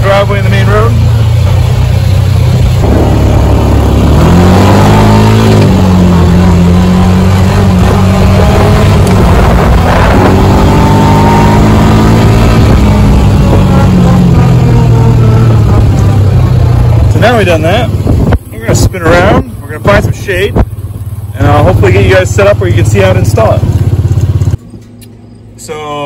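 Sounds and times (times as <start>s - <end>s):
loud engine accelerating: 0.0s - 24.7s.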